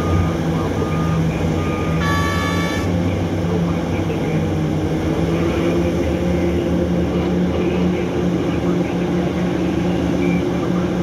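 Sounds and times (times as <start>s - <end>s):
excavator diesel engine droning: 0.0s - 11.0s
haul truck engine running: 0.0s - 11.0s.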